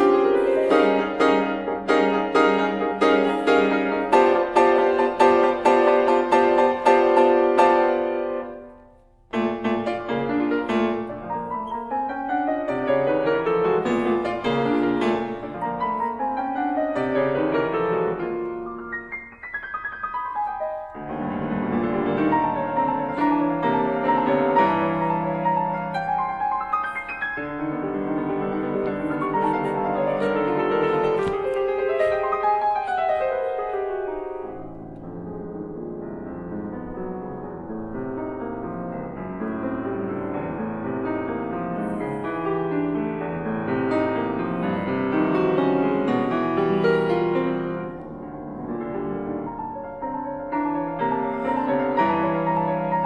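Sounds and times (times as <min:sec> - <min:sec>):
grand piano playing: 0:00.0 - 0:53.0.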